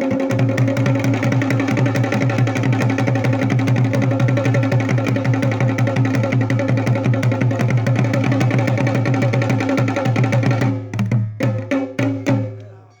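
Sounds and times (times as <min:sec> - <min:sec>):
kettle drums rolling: 0:00.0 - 0:12.6.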